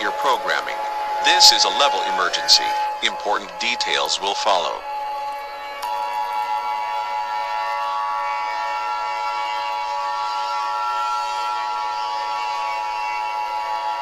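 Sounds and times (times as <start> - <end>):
two-tone alert alarm: 0.0 - 14.0.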